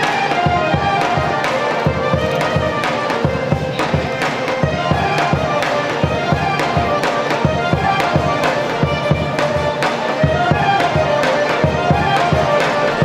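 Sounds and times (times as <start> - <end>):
folk dance melody: 0.0 - 13.0
steady drum beat: 0.0 - 13.0.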